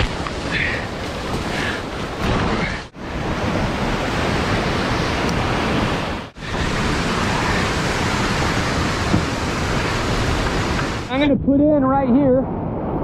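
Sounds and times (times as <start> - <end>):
rushing whitewater: 0.7 - 11.2.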